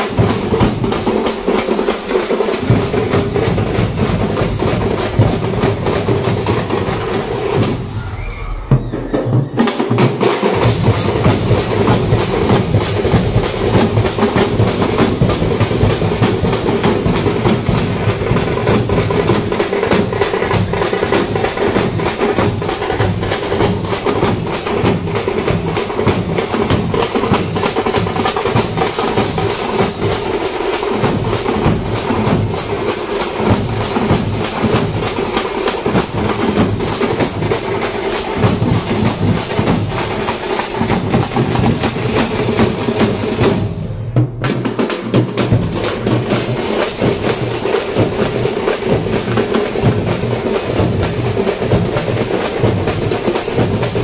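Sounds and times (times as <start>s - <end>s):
drummers beating large drums: 0.0s - 54.0s.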